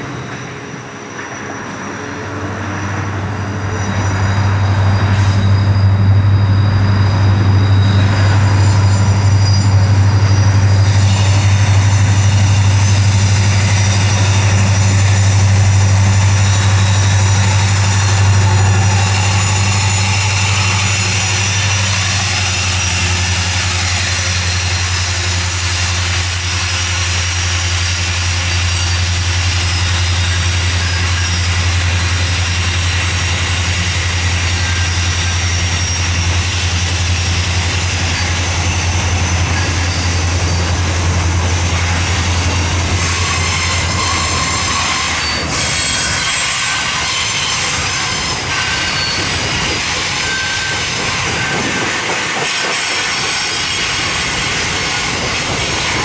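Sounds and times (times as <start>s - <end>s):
deep locomotive engine drone: 0.0s - 56.0s.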